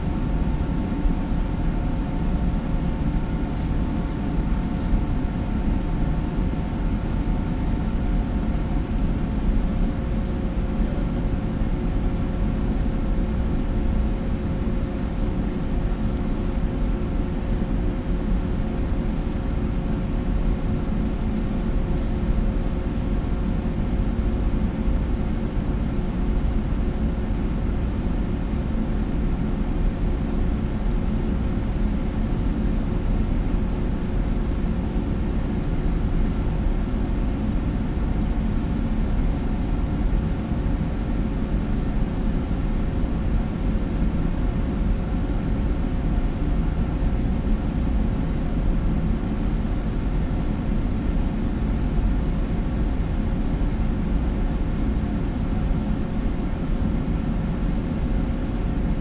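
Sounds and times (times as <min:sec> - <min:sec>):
ventilation drone: 0:00.0 - 0:59.0.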